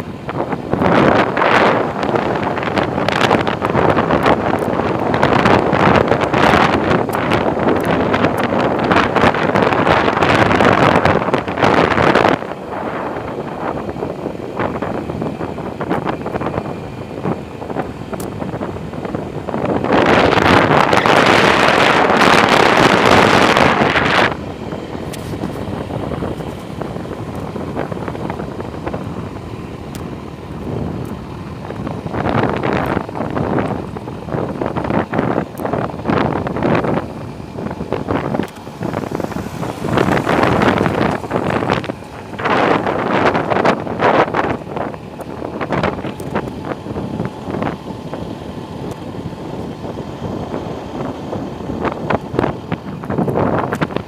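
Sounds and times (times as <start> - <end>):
motorcycle running: 0.0 - 54.0
wind buffeting microphone: 0.0 - 54.0.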